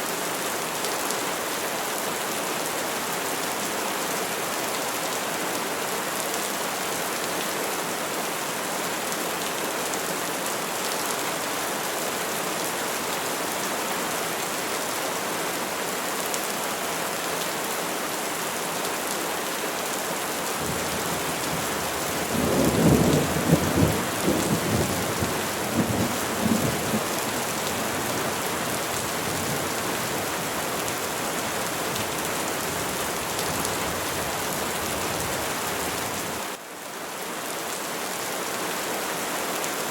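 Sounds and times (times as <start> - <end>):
rain falling on trees: 0.0 - 39.9.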